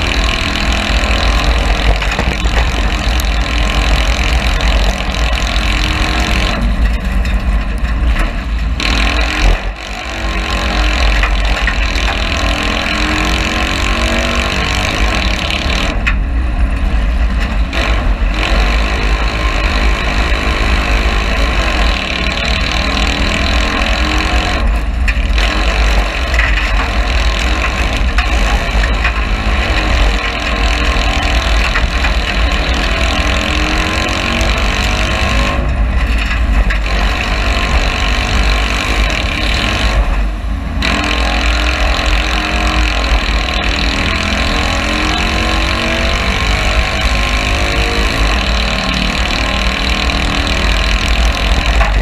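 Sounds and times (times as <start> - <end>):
car engine running hard: 0.0 - 52.0
road noise from dirt track: 0.0 - 52.0.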